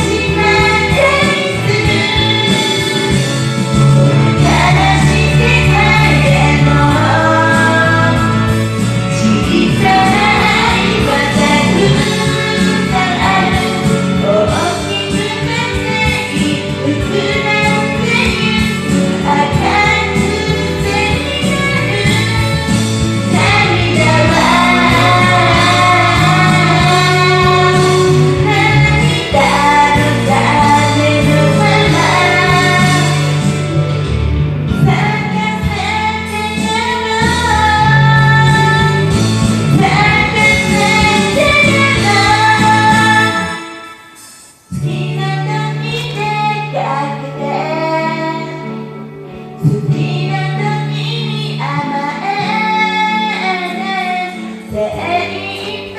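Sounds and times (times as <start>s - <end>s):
person singing pop song: 0.0s - 55.9s
pop backing track: 0.0s - 55.9s.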